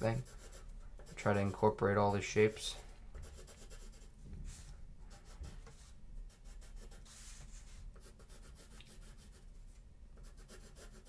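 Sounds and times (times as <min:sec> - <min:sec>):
pencil scratching on paper: 0:00.0 - 0:01.7, 0:02.4 - 0:09.5, 0:10.2 - 0:11.0.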